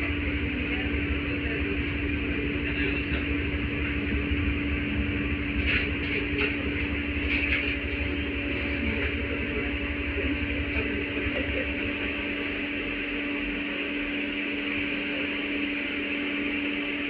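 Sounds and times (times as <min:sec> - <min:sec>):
tram wheels rumbling on rails: 0:00.0 - 0:15.6
constant hum: 0:00.0 - 0:17.0.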